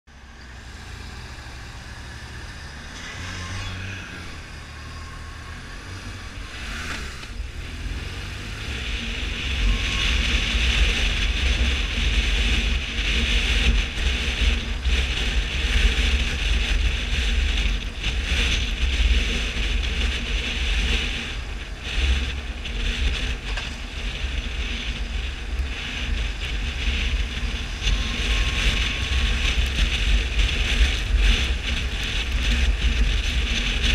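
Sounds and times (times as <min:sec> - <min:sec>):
low road rumble: 0:00.0 - 0:33.9
motorcycle engine running: 0:00.1 - 0:33.9
wind rushing over microphone: 0:00.1 - 0:33.9.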